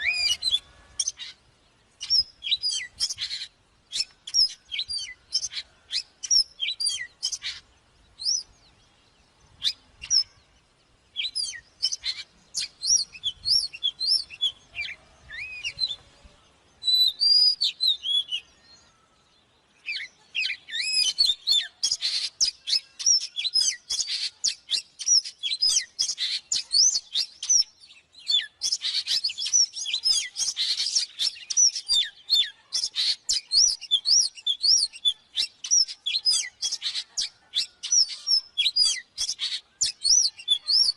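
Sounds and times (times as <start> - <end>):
bird singing whistled chirps: 0.0 - 1.4, 2.0 - 40.9.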